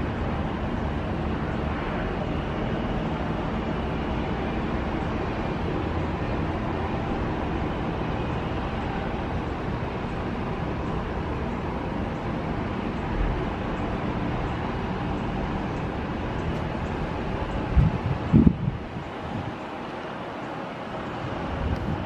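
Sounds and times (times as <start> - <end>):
distant road traffic hum: 0.0 - 22.0.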